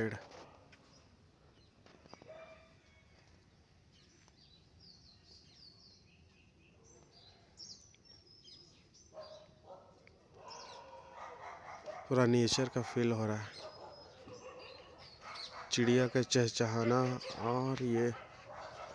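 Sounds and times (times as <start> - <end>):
faint birds chirping: 0.0 - 18.9.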